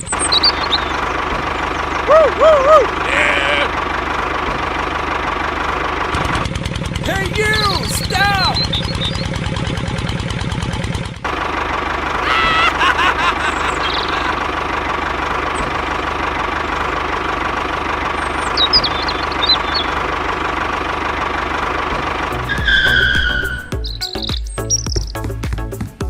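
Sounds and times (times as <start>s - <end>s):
small engine running: 0.0s - 23.9s.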